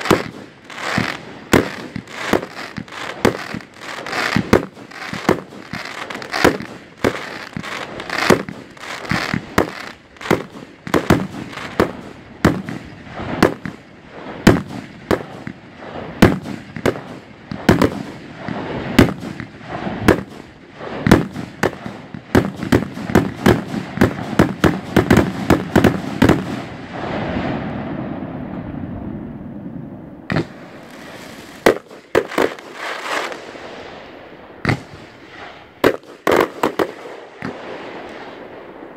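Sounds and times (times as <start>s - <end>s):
fireworks bangs with crackling: 0.0s - 28.7s, 30.3s - 38.9s
fireworks rushing noise: 0.0s - 38.9s.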